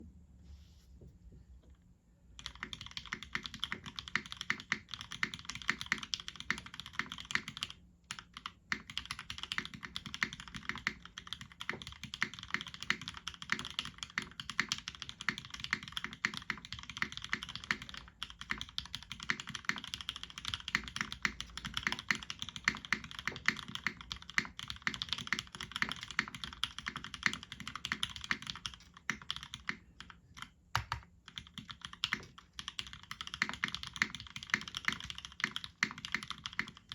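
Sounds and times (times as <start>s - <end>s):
fast typing on mechanical keyboard: 2.4s - 36.9s.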